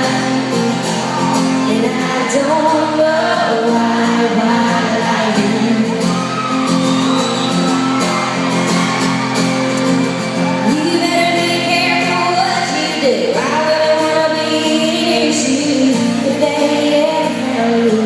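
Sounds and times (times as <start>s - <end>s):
live country band with singing: 0.0s - 18.0s.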